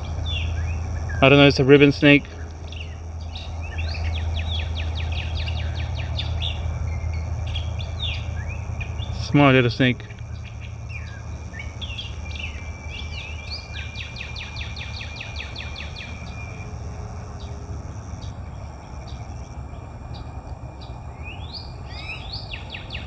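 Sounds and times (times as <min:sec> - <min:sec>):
low rumble: 0:00.0 - 0:23.0
steady high hiss: 0:00.0 - 0:23.0
wild birds calling: 0:00.0 - 0:23.0.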